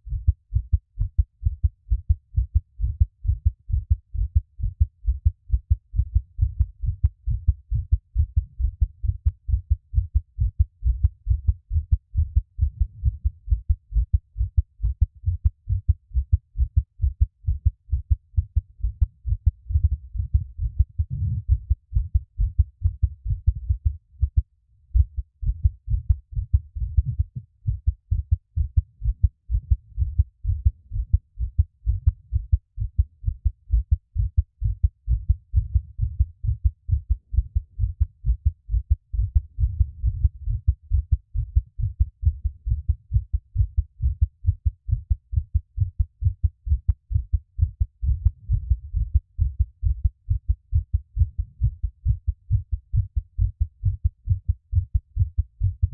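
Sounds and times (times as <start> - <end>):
fast heartbeat thuds: 0.0 - 55.9.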